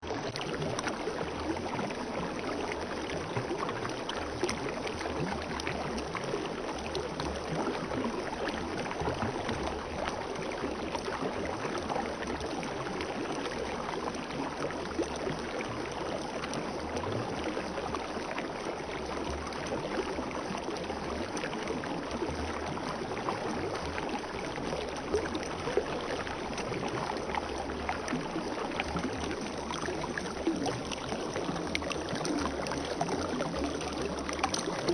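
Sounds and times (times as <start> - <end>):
water flowing and splashing: 0.0 - 34.9.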